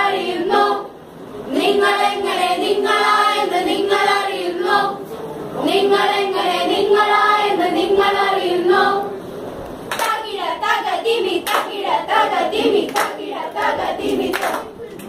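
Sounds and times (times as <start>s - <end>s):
group singing: 0.0s - 9.3s, 9.9s - 14.8s.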